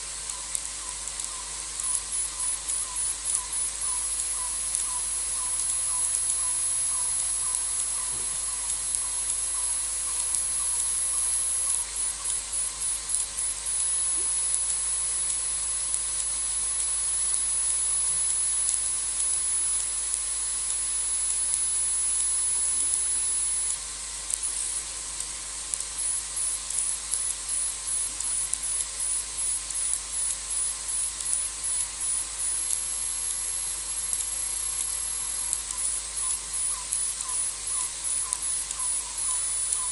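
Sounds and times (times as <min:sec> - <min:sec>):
steady hiss: 0:00.0 - 0:39.9
insects trilling: 0:00.2 - 0:24.8, 0:25.7 - 0:39.9
lower insect chirp: 0:00.3 - 0:24.8, 0:25.7 - 0:39.9.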